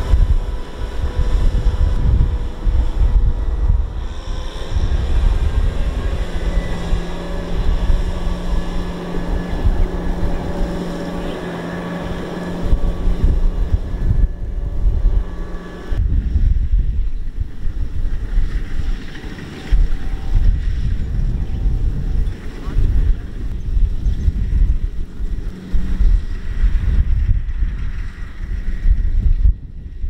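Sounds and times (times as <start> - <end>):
tractor diesel engine running hard: 0.0 - 29.3
wheels spinning in mud: 0.0 - 30.0
wind buffeting microphone: 0.0 - 30.0.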